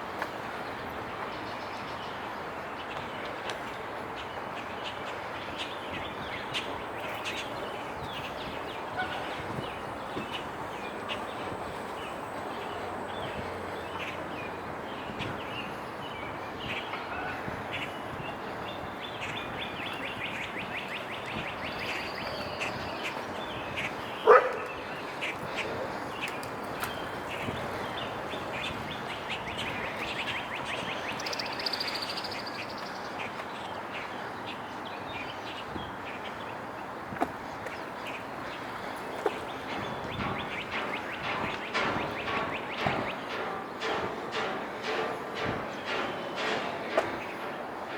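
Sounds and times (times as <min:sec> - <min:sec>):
street ambience: 0:00.0 - 0:47.9.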